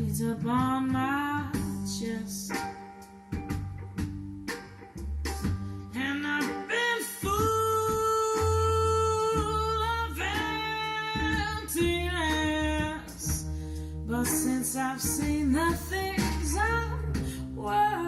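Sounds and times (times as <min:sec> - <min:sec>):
bass: 0:00.0 - 0:18.0
guitar: 0:00.0 - 0:18.0
jazz song over loudspeakers: 0:00.0 - 0:18.0.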